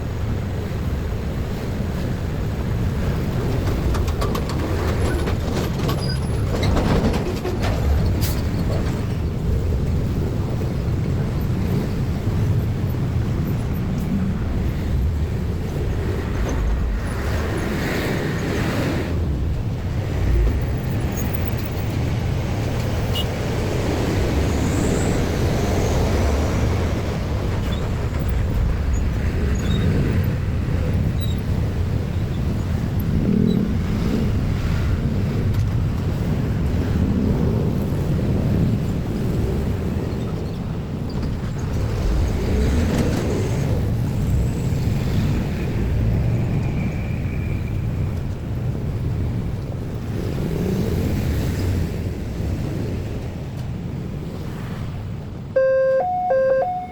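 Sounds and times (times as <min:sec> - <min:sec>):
road traffic rumble: 0:00.0 - 0:56.9.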